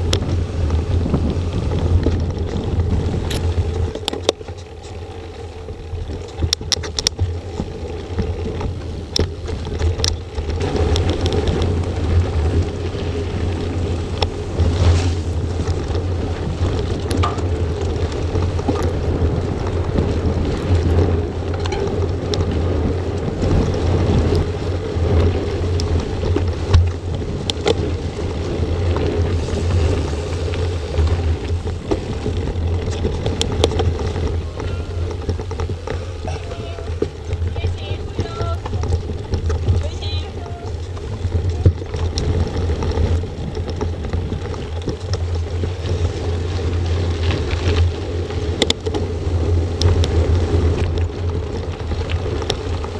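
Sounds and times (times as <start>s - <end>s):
bike clicks and rattles: 0.0s - 52.9s
tyres on gravel trail: 0.0s - 52.9s
wind rumble on microphone: 0.0s - 52.9s.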